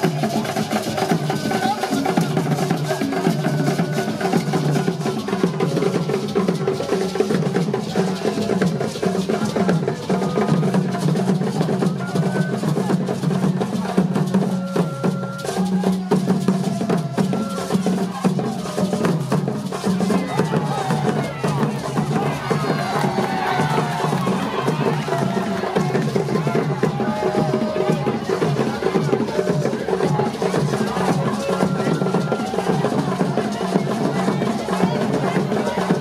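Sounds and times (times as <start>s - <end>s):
drum and percussion music: 0.0s - 36.0s.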